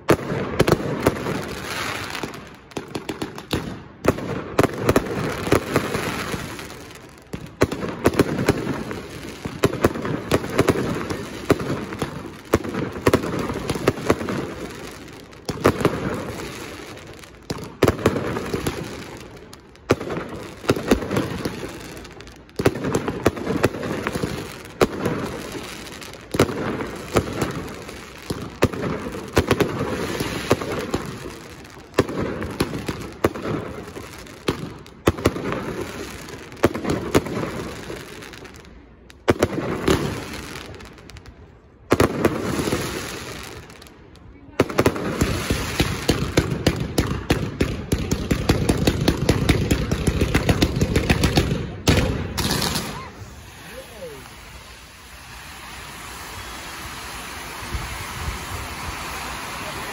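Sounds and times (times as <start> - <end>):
crackling firework pops: 0.0 - 59.9.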